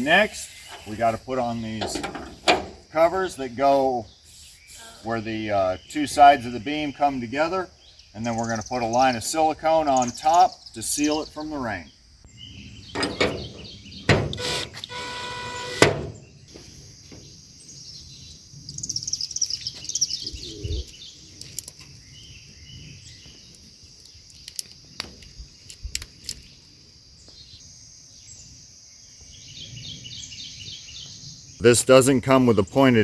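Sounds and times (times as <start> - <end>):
birds chirping: 0.0 - 33.0
insects droning: 0.0 - 33.0.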